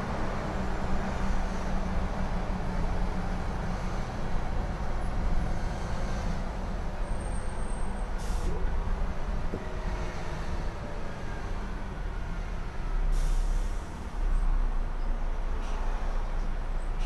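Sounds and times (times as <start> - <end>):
bus diesel engine drone: 0.0 - 17.0
road rumble: 0.0 - 17.0.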